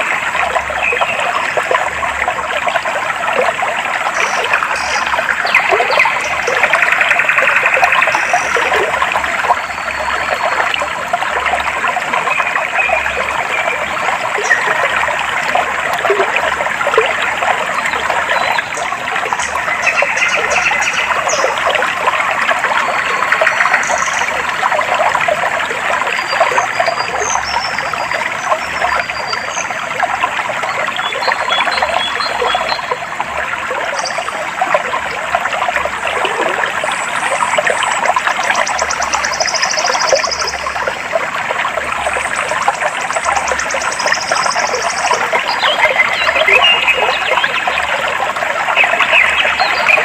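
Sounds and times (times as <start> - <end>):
stream trickling and babbling: 0.0 - 50.0.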